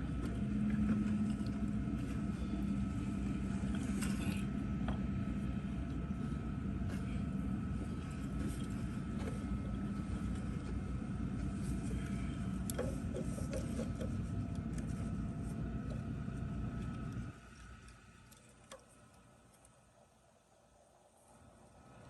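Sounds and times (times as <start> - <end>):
motor humming: 0.0 - 19.3.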